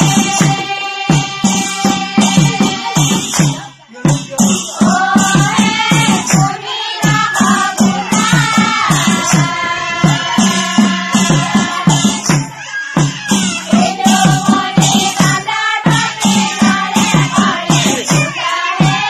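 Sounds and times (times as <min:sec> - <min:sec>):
women chanting in unison: 0:00.0 - 0:03.8, 0:04.8 - 0:12.6, 0:13.6 - 0:19.0
cymbals: 0:00.0 - 0:19.0
steady drum beat: 0:00.0 - 0:19.0.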